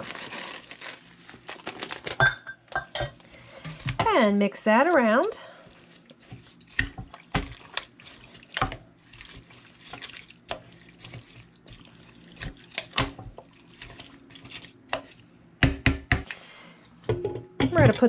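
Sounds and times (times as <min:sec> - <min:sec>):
wet squelches of stirring: 0:00.0 - 0:16.4.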